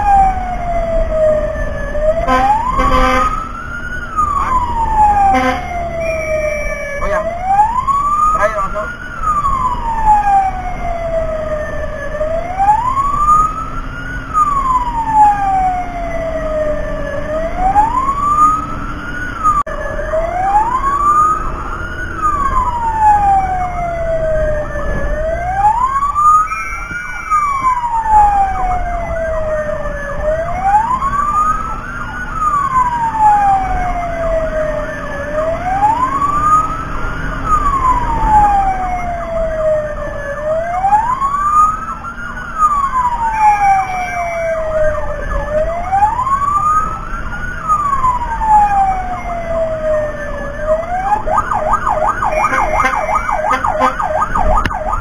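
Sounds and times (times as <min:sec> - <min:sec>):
fire truck siren wailing: 0:00.0 - 0:55.0.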